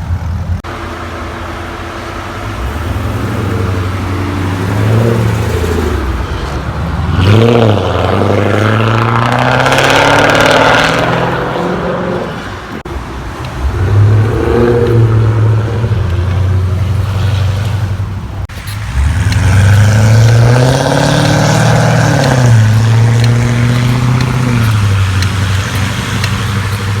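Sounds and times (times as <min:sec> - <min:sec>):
car engine deep burble: 0:00.0 - 0:27.0
engine rev: 0:00.0 - 0:27.0.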